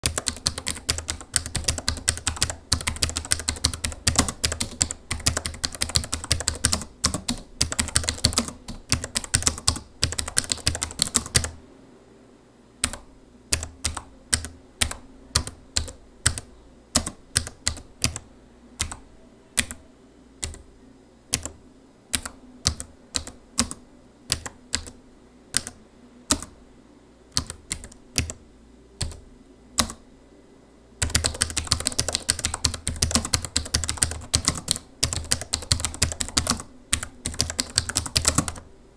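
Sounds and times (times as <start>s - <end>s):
typing on laptop keyboard: 0.0s - 11.6s, 12.8s - 19.0s, 19.6s - 19.8s, 20.4s - 20.6s, 21.3s - 26.6s, 27.3s - 28.4s, 31.0s - 38.7s.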